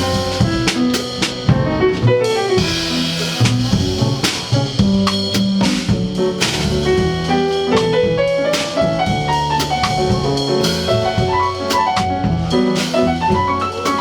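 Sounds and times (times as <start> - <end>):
drum kit: 0.0 - 14.0
jazz piano: 0.0 - 14.0.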